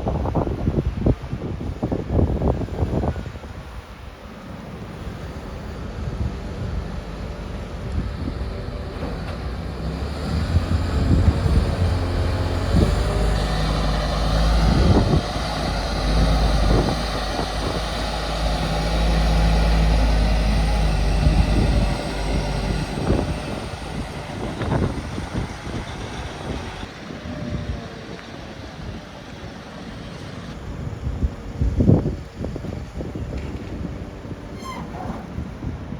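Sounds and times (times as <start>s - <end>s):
crane diesel engine running: 2.7s - 35.9s.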